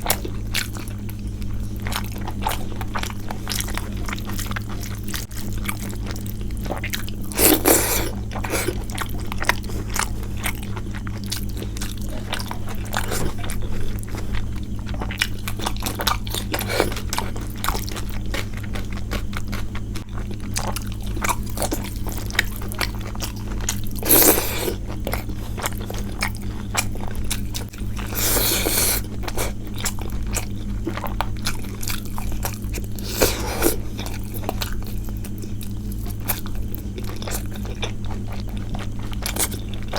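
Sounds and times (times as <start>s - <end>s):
chewing with wet mouth clicks: 0.0s - 39.9s
steady low hum: 0.0s - 39.9s
crunchy bites: 6.5s - 39.9s.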